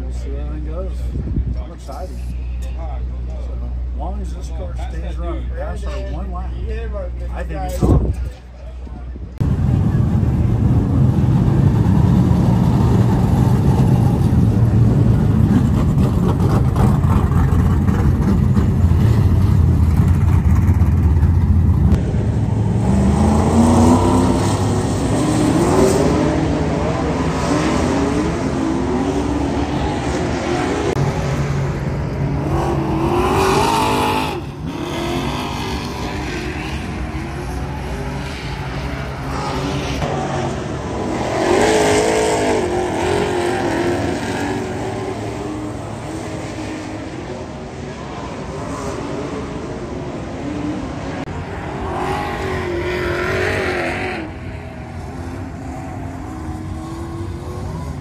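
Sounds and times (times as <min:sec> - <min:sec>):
race car engines revving: 0:00.0 - 0:58.0.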